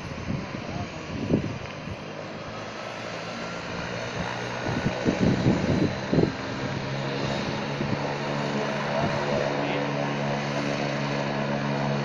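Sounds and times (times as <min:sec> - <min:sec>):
helicopter turbine and rotor drone: 0:00.0 - 0:12.0.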